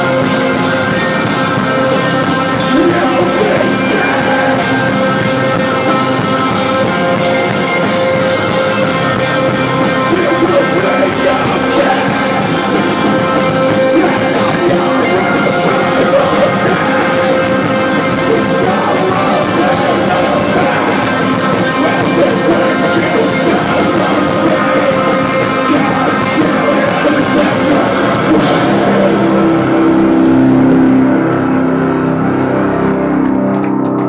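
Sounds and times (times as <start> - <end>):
drum kit: 0.0 - 31.9
distorted electric guitars: 0.0 - 34.0.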